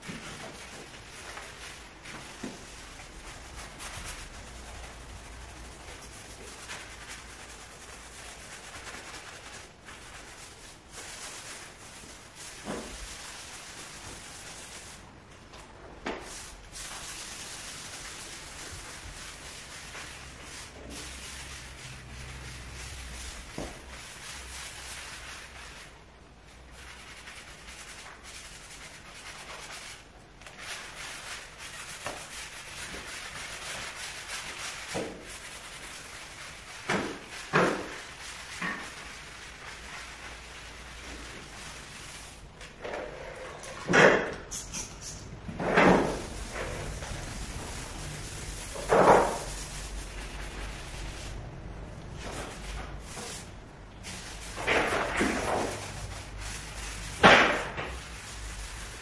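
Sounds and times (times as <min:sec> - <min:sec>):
sponge scrubbing wooden floor: 0:00.0 - 0:15.2, 0:16.2 - 0:26.0, 0:26.6 - 0:43.9, 0:44.5 - 0:59.0.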